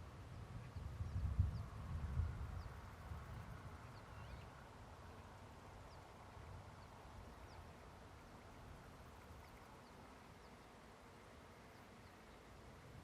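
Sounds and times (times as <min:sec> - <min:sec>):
soft steady hiss: 0:00.0 - 0:13.0.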